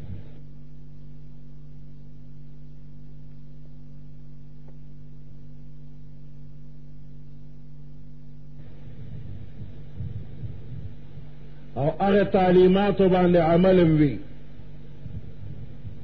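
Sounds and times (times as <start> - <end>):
low electrical mains hum: 0.0 - 16.0.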